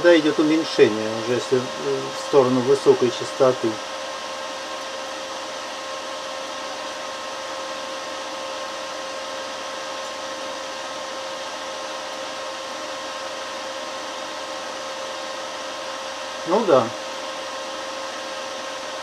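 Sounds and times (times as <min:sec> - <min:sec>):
induction heater machine whir: 0:00.0 - 0:19.0.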